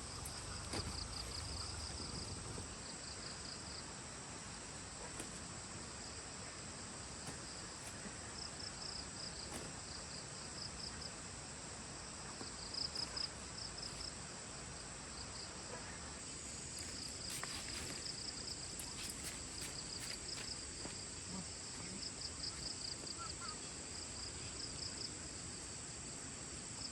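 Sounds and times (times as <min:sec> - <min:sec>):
insects droning: 0:00.0 - 0:26.9.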